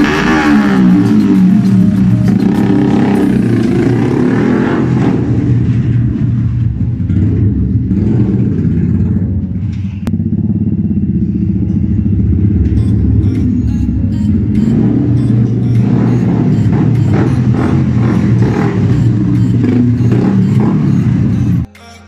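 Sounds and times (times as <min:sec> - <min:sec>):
motorcycle engine revving hard: 0:00.0 - 0:13.6, 0:14.2 - 0:21.7.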